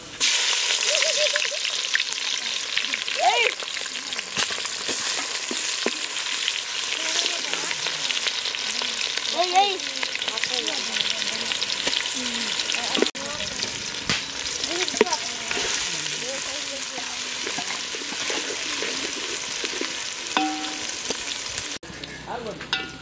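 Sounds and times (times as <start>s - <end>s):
onions sizzling in hot oil: 0.0s - 23.0s.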